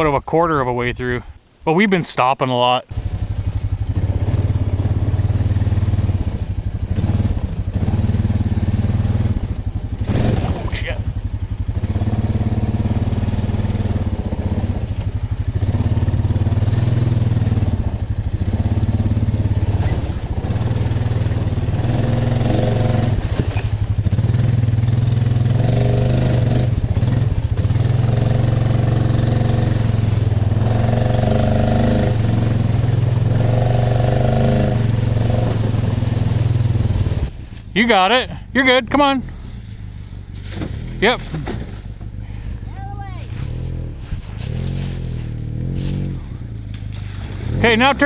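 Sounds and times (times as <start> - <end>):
atv engine running at low revs: 0.0 - 48.0.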